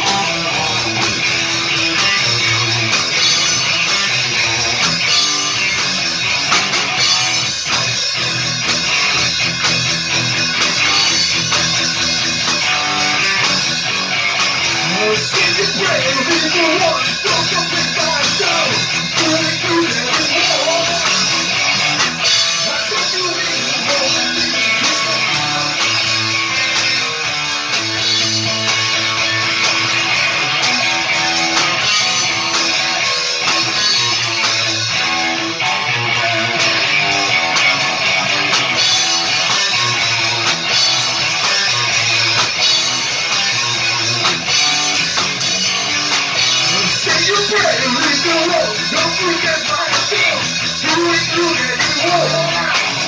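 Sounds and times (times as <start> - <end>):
bending guitar lead line: 0.0 - 53.0
rock band playing live: 0.0 - 53.0.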